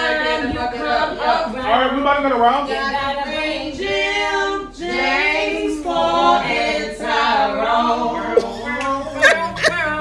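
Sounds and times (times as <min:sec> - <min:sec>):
voices singing unaccompanied: 0:00.0 - 0:10.0.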